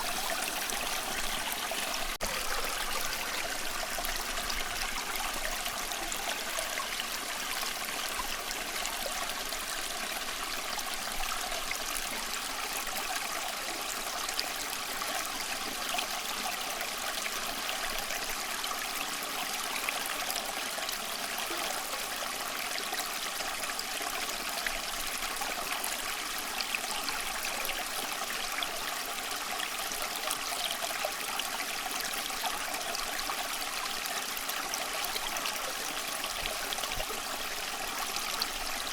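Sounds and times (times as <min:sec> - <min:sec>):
stream running water: 0:00.0 - 0:38.9.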